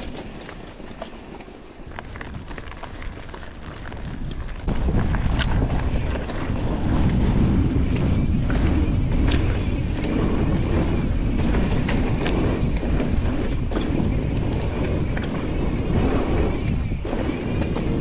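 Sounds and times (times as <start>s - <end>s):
bike clicks and rattles: 0.0s - 18.0s
wind buffeting microphone: 1.8s - 18.0s.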